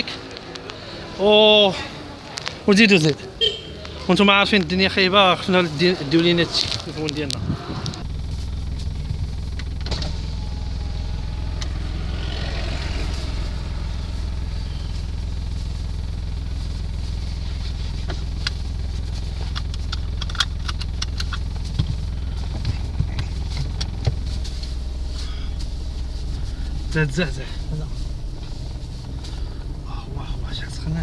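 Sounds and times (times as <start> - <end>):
car engine and road drone: 0.0 - 31.0.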